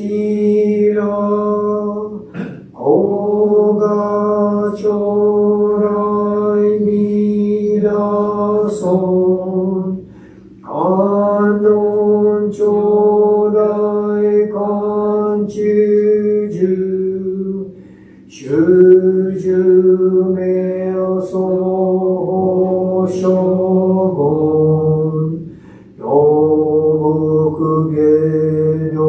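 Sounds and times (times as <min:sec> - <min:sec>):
man chanting: 0:00.0 - 0:29.0.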